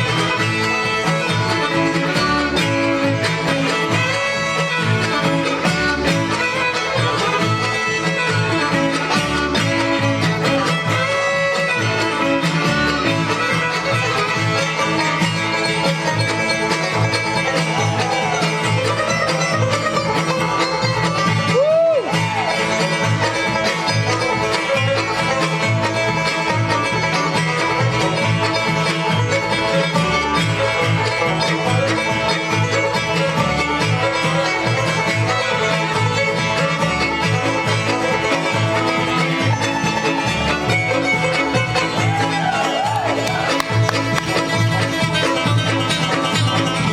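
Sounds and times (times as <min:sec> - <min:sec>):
banjo: 0:00.0 - 0:46.9
bluegrass band playing: 0:00.0 - 0:46.9.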